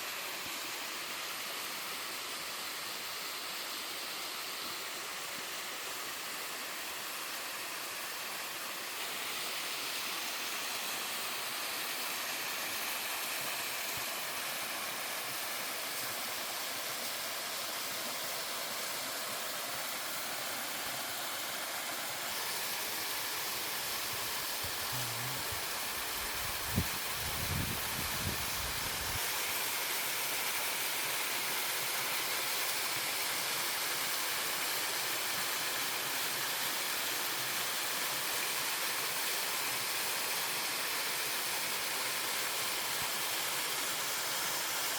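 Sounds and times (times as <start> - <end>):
waterfall rushing water: 0.0 - 44.9.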